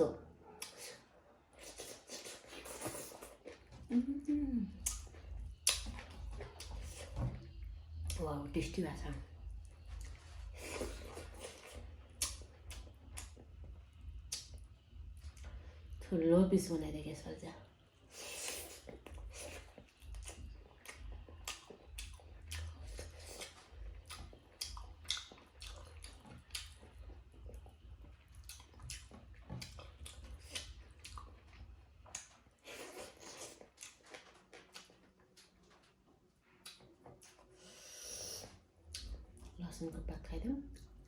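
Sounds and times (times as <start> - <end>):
wet chewing mouth sounds: 0.4 - 16.0, 18.0 - 39.6.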